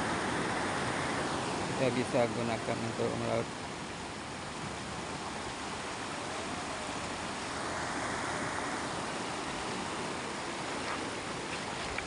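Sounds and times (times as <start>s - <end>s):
sea waves breaking: 0.0s - 12.0s.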